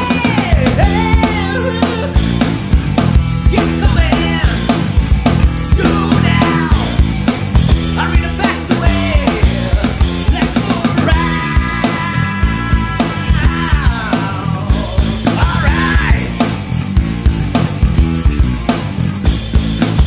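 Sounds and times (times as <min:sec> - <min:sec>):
drum kit beat: 0:00.0 - 0:20.0
rock song: 0:00.0 - 0:20.0.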